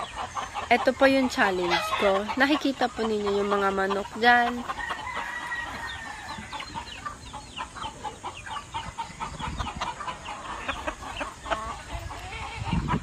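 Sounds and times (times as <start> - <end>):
roosters clucking and calling: 0.0 - 13.0.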